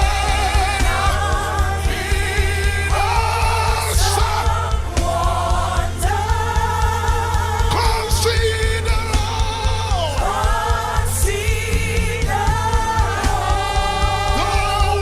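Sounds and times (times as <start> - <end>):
band with pulsing low beat: 0.0 - 15.0
voices singing gospel: 0.0 - 15.0.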